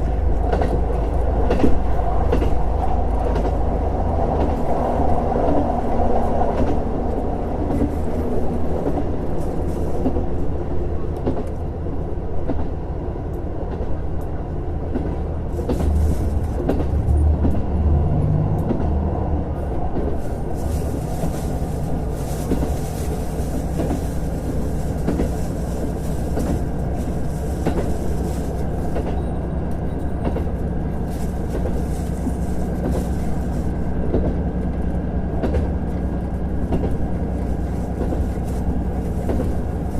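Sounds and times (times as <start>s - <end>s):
diesel railcar engine drone: 0.0s - 39.9s.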